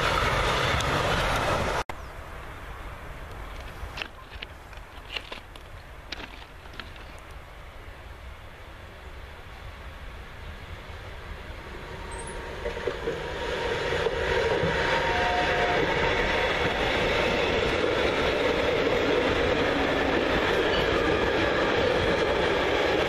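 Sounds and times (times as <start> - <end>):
freight train passing: 0.0 - 3.8, 7.2 - 23.0.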